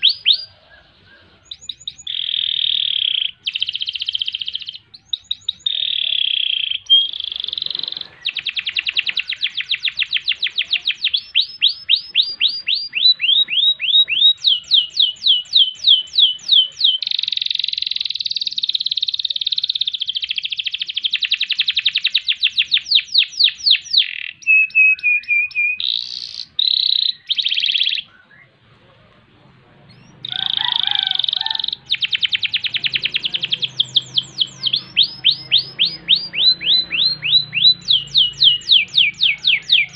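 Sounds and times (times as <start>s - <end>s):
canary singing trills: 0.0s - 28.7s, 29.6s - 39.9s.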